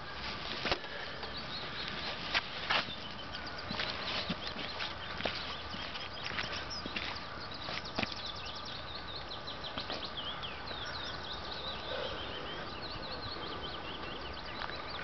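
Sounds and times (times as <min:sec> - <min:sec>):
background noise: 0:00.0 - 0:15.0
songbirds twittering: 0:00.0 - 0:15.0.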